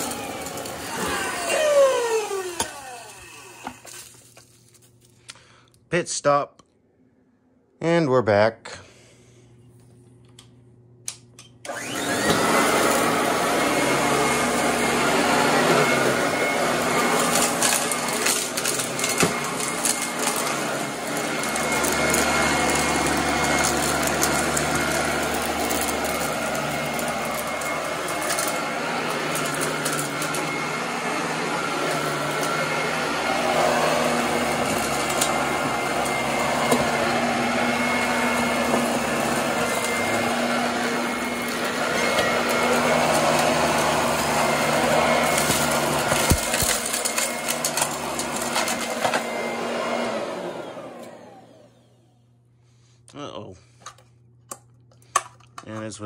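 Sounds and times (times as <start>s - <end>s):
vacuum cleaner running on carpet: 0.0s - 4.8s, 11.6s - 52.3s.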